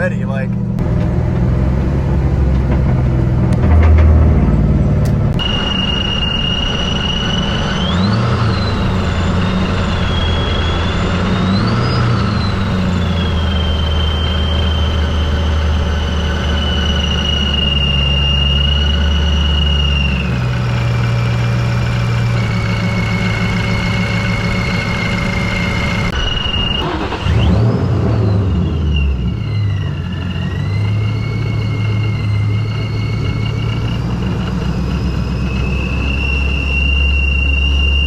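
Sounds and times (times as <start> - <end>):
car engine hum: 0.0 - 38.0
supercharger whine: 0.0 - 38.0.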